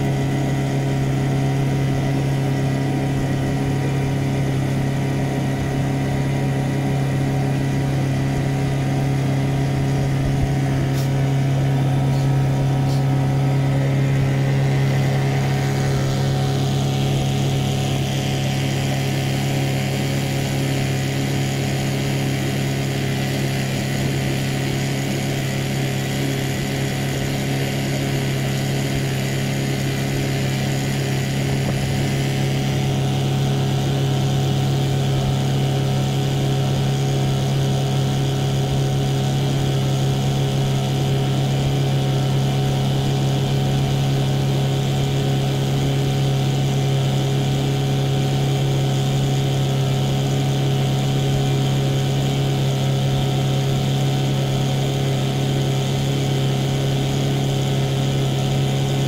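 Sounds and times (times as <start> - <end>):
outboard motor humming: 0.0 - 59.0.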